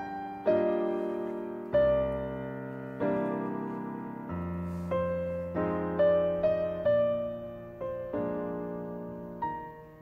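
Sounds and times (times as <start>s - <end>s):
slow piano chords: 0.0s - 10.0s.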